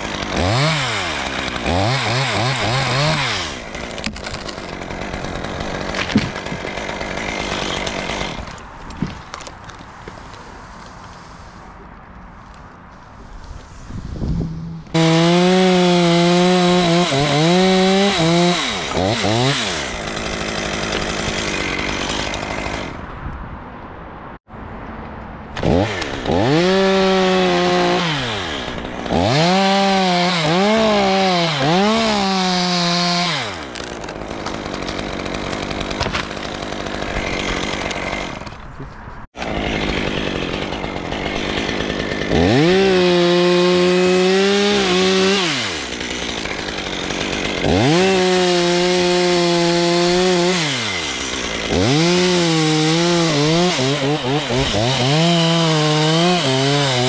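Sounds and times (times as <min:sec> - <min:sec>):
chainsaw cutting wood: 0:00.0 - 0:11.6, 0:14.2 - 0:23.0, 0:25.5 - 0:38.7, 0:39.3 - 0:57.0.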